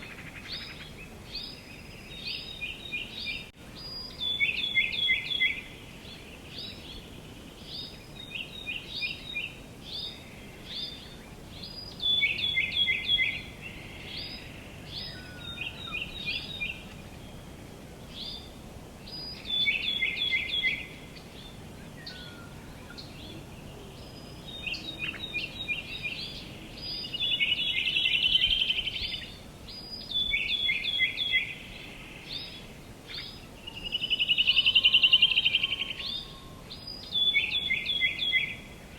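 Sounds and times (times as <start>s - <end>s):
faint background hiss: 0.0s - 38.9s
songbirds chirping: 0.0s - 38.9s.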